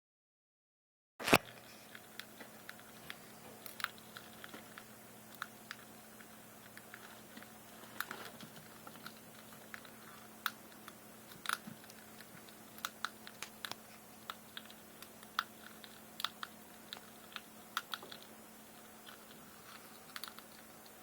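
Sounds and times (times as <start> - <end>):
rat crunching dry snacks: 1.2 - 21.0.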